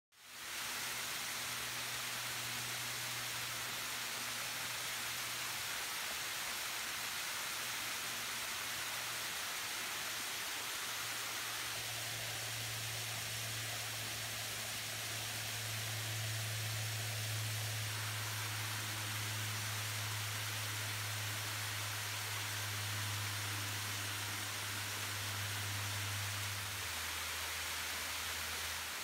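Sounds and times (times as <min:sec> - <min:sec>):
waterfall rushing into pool: 0:00.2 - 0:29.0.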